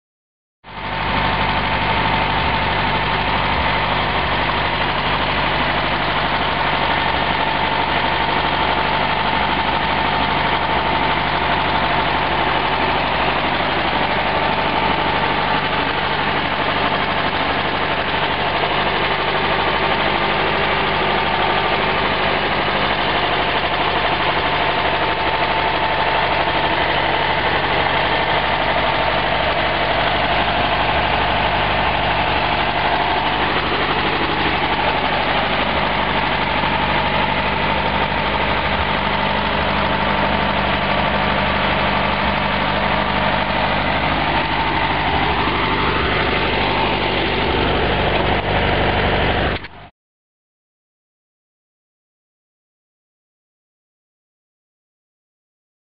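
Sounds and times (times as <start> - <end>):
car engine idling: 0.6 - 49.9.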